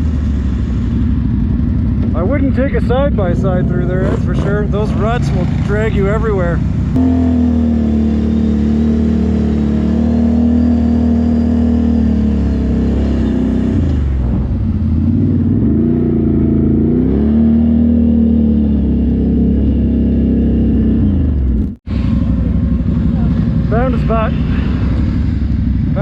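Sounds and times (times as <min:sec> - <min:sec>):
quad engine running under load: 0:00.0 - 0:26.0.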